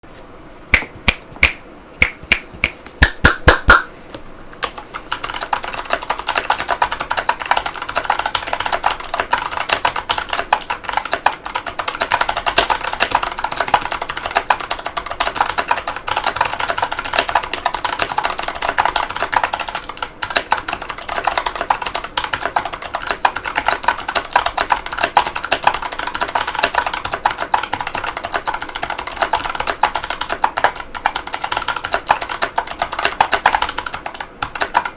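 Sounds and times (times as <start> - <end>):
clicky mechanical keyboard typing: 4.6 - 34.9.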